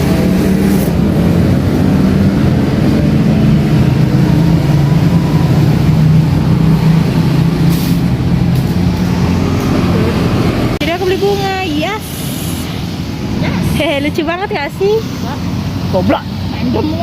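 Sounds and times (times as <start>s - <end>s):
road noise: 0.0s - 17.0s
vehicle engine droning: 0.0s - 17.0s.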